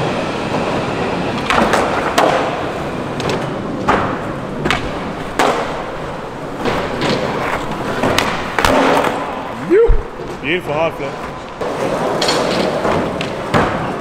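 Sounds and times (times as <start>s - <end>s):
skateboards rolling: 0.0s - 14.0s
skateboards popping and landing: 1.4s - 10.5s, 11.1s - 14.0s.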